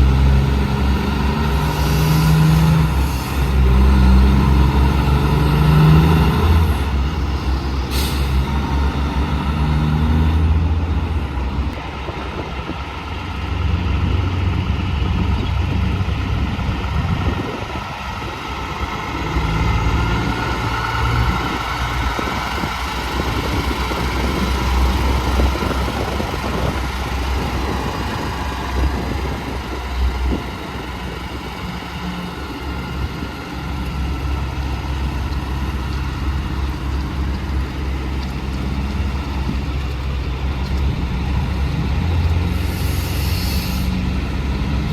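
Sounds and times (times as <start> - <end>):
trucks and cars passing: 0.0 - 44.9.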